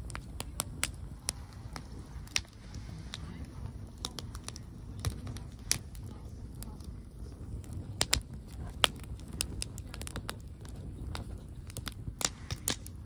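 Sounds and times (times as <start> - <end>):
campfire crackling and popping: 0.0 - 13.0
steady low rumble: 0.0 - 13.0.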